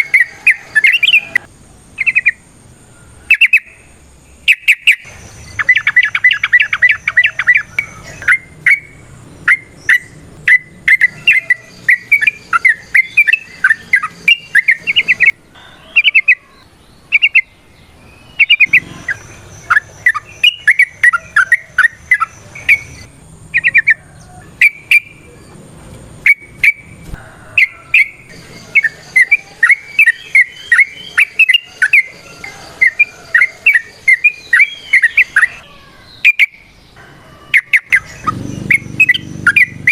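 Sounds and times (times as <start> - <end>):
bird chattering song: 0.0 - 2.5, 3.2 - 39.9.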